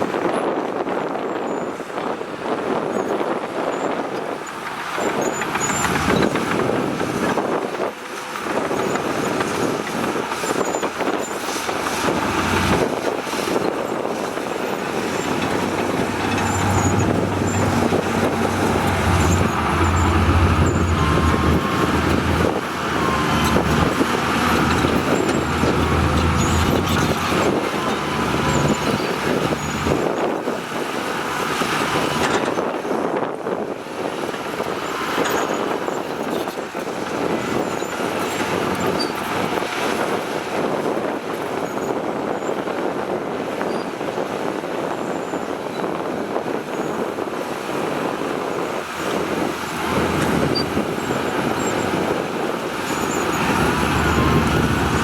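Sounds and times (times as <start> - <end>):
diesel construction machinery running: 0.0 - 55.0.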